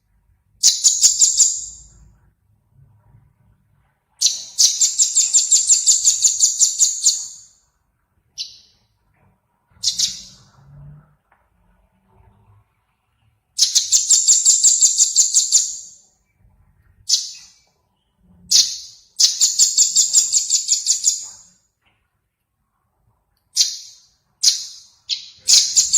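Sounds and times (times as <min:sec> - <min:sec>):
songbird chirping and trilling: 0:00.6 - 0:02.2, 0:04.1 - 0:10.8, 0:12.1 - 0:22.0, 0:23.4 - 0:25.9.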